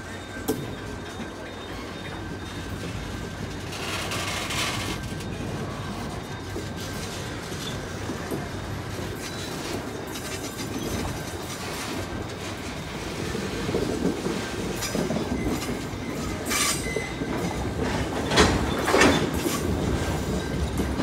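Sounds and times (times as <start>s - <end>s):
train wagons rumbling on rails: 0.0s - 21.0s.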